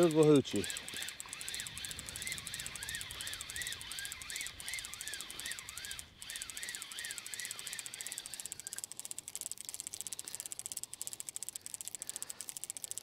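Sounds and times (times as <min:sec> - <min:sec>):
fishing reel clicking: 0:00.0 - 0:13.0
reel whine: 0:00.0 - 0:13.0.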